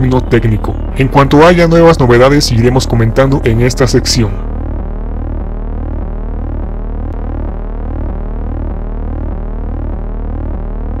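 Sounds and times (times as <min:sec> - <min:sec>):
synthesized electronic drone: 0:00.0 - 0:11.0.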